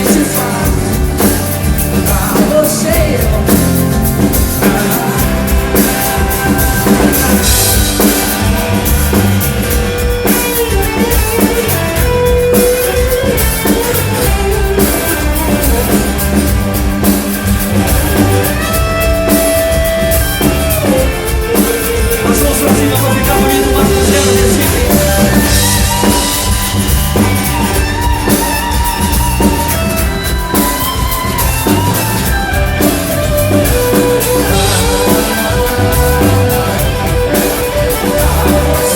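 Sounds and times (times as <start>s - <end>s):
drum kit: 0.0s - 38.9s
guitar: 0.0s - 38.9s
pop-rock band playing live: 0.0s - 38.9s.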